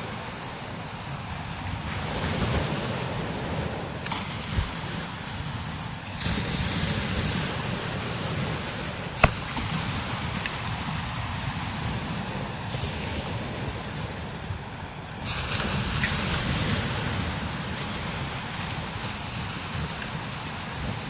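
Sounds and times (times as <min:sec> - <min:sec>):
strong gusting wind: 0:00.0 - 0:21.0.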